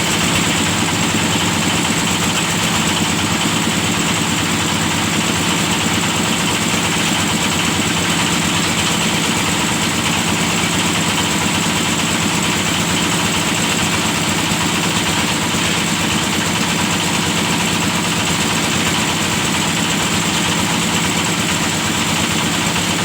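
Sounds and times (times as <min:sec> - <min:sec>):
drilling rig engine running: 0:00.0 - 0:23.0.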